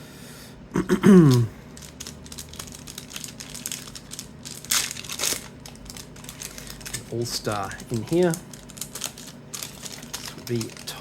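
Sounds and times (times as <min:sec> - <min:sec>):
foil wrapper crinkling and tearing: 0:01.3 - 0:11.0.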